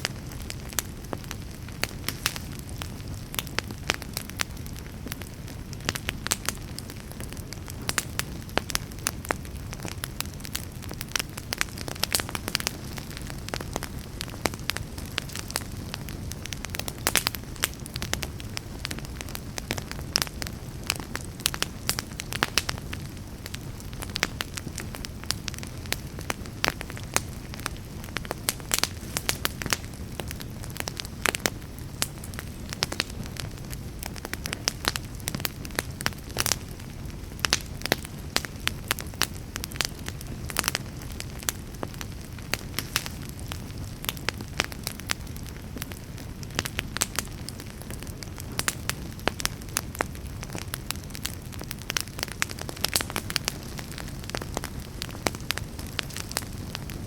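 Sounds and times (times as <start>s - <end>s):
fire crackling and popping: 0.0s - 57.0s
low rush of flame: 0.0s - 57.0s.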